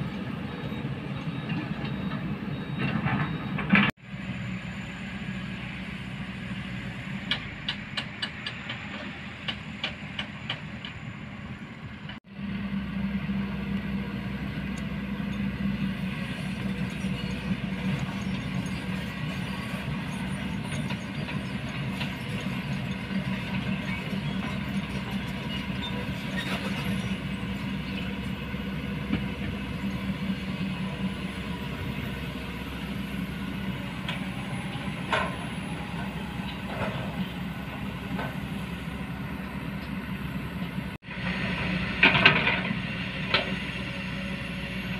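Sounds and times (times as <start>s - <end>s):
excavator diesel engines droning: 0.0s - 44.9s.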